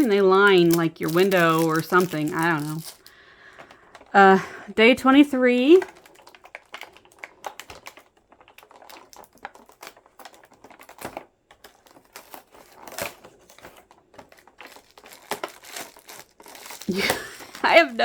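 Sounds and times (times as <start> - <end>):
small plastic pieces handled: 0.0 - 4.2, 5.0 - 18.0.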